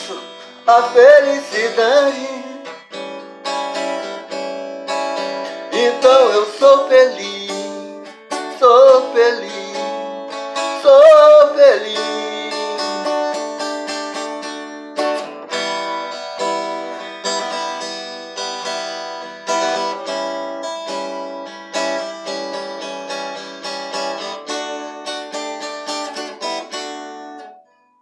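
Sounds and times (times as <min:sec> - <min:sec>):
acoustic guitar playing: 0:00.0 - 0:27.9.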